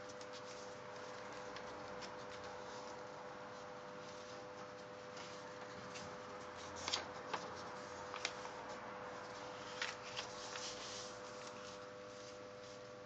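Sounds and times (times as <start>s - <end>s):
paper rustling and crackling: 0.0s - 13.0s.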